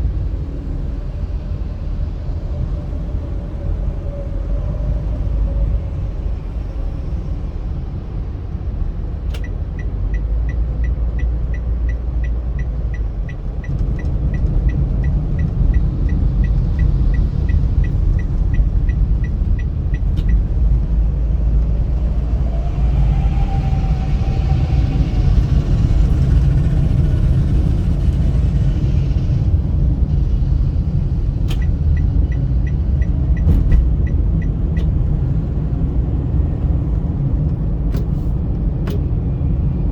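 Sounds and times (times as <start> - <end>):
car road rumble inside cabin: 0.0 - 39.9
passing traffic: 0.0 - 39.9.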